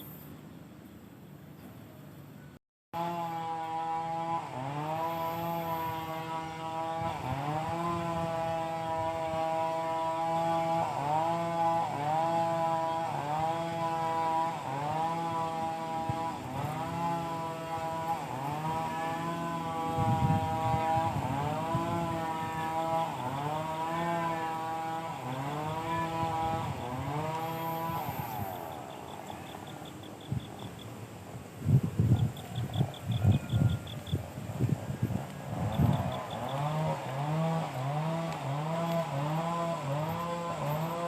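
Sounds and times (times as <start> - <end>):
two-stroke engine at high speed: 3.0 - 41.0.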